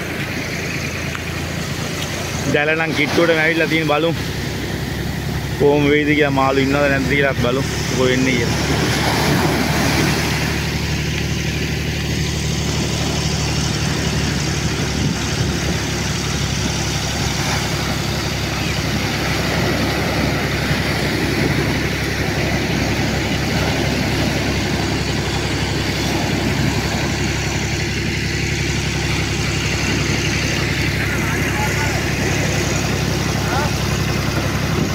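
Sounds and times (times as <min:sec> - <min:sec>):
surf breaking on beach: 0:00.0 - 0:34.9
tractor engine running: 0:00.0 - 0:34.9.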